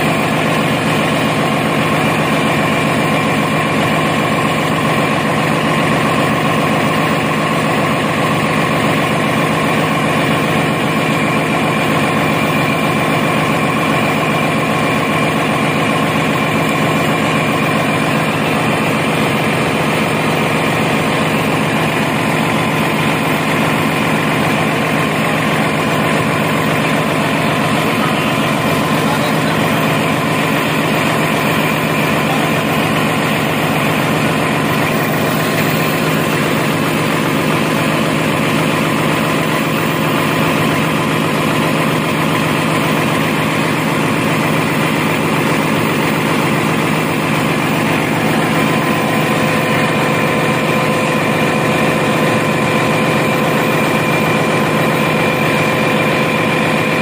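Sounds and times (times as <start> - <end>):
diesel generator running: 0.0 - 57.0.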